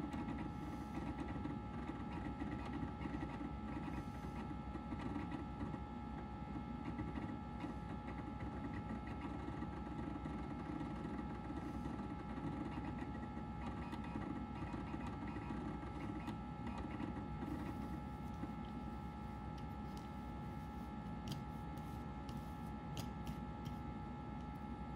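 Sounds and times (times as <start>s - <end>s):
hard disk seek ticks: 0.0s - 24.8s
fan and drive hum: 0.0s - 24.9s.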